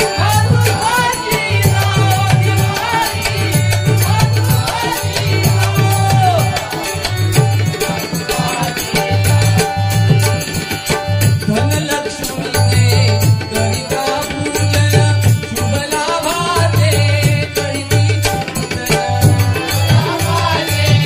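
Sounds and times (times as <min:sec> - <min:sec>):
dholki and tabla drumming: 0:00.0 - 0:21.0
harmonium: 0:00.0 - 0:21.0.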